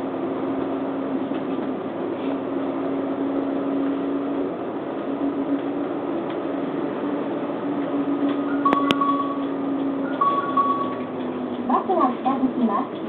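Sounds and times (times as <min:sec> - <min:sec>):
bus engine and road rumble: 0:00.0 - 0:13.0
steady hum: 0:00.0 - 0:13.0.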